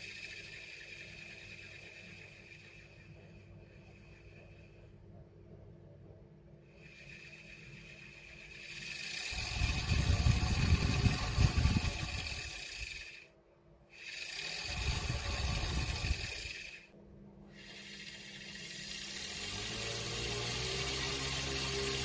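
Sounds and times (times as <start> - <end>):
fan whirring hiss: 0.0 - 22.0
steady low hum: 0.0 - 22.0.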